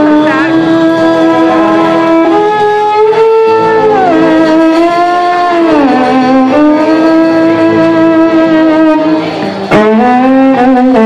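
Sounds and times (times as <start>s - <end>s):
amplified fiddle melody: 0.0s - 11.0s
live band playing: 0.0s - 11.0s.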